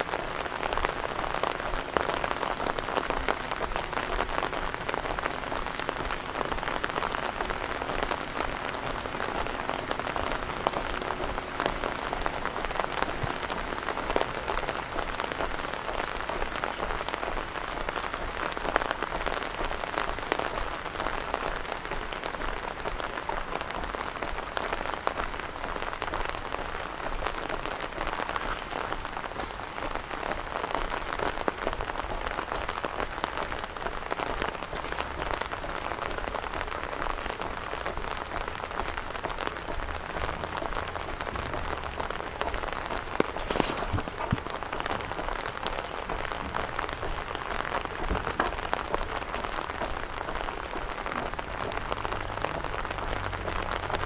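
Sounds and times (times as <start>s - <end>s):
rain pattering on hard surfaces: 0.0s - 54.0s.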